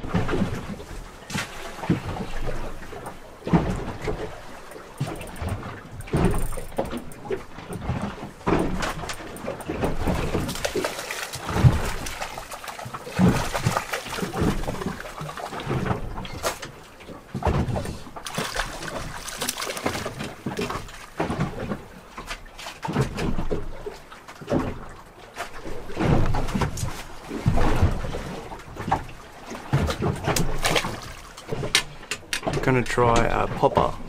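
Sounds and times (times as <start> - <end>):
water slapping against boat hull: 0.0 - 34.0.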